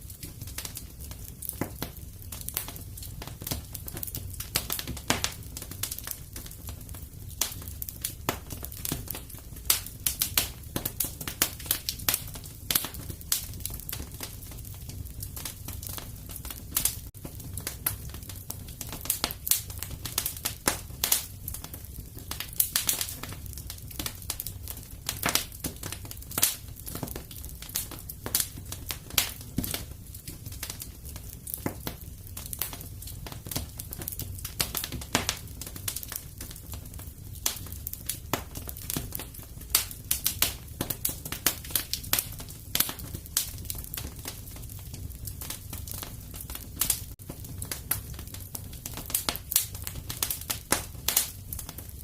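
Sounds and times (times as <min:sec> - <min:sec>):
fireplace fire crackling: 0:00.0 - 0:52.0
low rumble of burning fire: 0:00.0 - 0:52.0.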